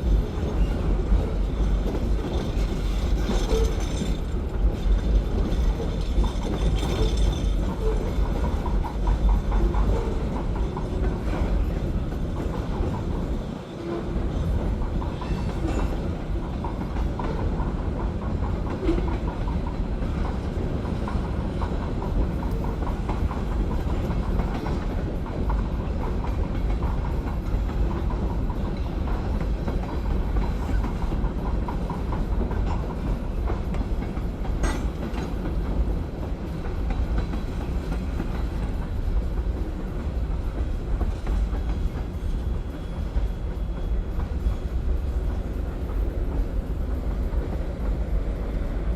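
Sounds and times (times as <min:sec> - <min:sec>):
freight train rumbling past: 0:00.0 - 0:48.9
wheels clicking over rail joints: 0:00.1 - 0:13.3, 0:14.4 - 0:45.6.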